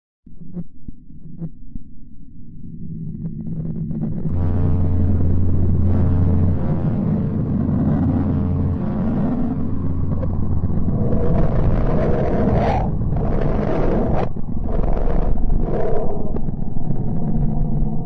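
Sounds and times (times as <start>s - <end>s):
low rumbling drone: 0.3s - 18.0s
steady hum tones: 0.3s - 18.0s.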